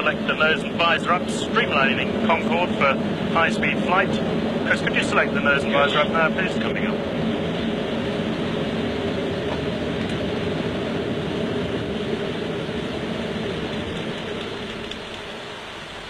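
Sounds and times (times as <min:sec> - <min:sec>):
cockpit airflow rush: 0:00.0 - 0:16.0.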